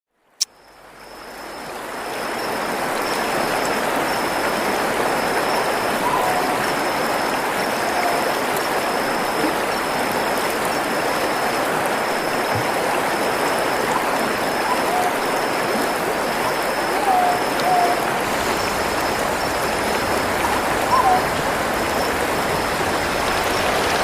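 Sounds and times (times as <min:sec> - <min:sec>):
stream water running: 0:00.4 - 0:24.0.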